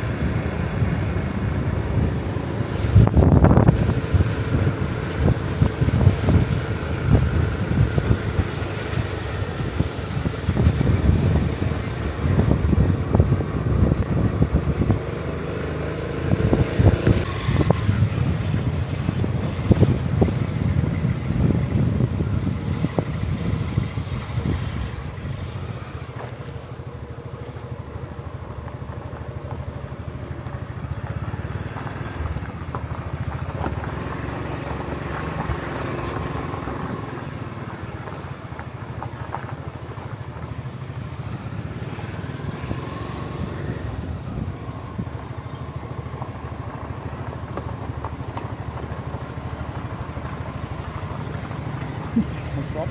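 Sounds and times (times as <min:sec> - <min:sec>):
small motorbike engine running: 0:00.0 - 0:52.9.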